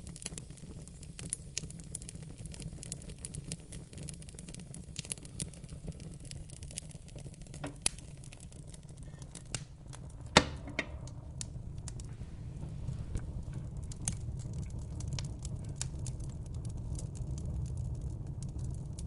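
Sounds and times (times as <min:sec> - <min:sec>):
fire popping and snapping: 0:00.0 - 0:19.0
fire rumbling: 0:00.0 - 0:19.0.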